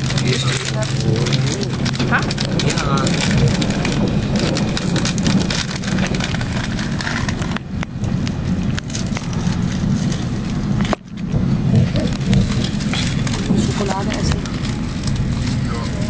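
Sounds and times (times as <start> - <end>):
crackle of small clicks: 0.0 - 16.0
train wheels rumbling on track: 0.0 - 16.0.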